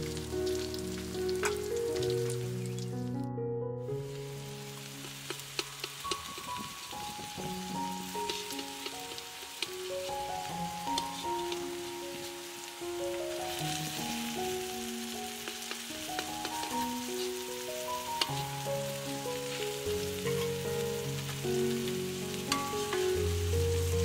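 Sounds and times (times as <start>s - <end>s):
omelette sizzling in oil: 0.0s - 2.9s, 4.0s - 24.0s
background music of held notes: 0.0s - 24.0s.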